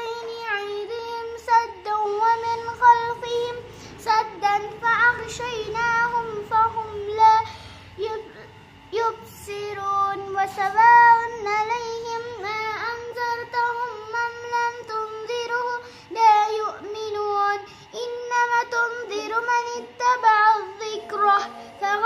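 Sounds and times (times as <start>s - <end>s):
girl chanting melodic recitation: 0.0s - 22.0s.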